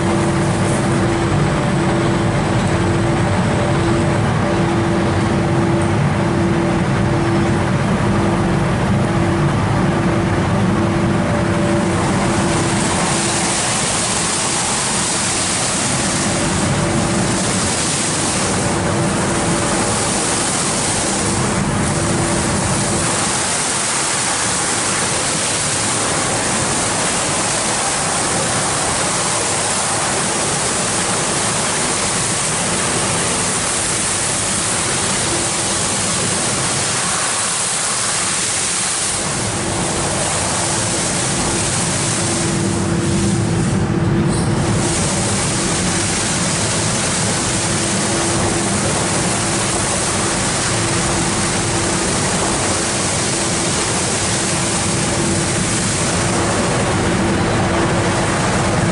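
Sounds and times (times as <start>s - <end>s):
car wash brushes and water spray: 0.0s - 58.9s
low machine hum: 0.0s - 58.9s.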